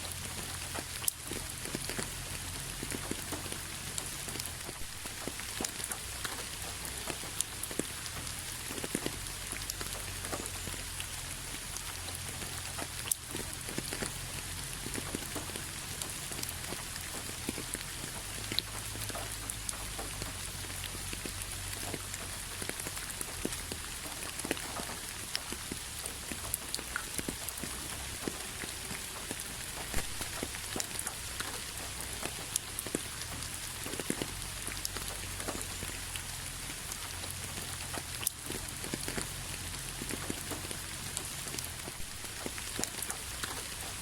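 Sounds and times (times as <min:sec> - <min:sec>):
rain hiss: 0:00.0 - 0:44.0.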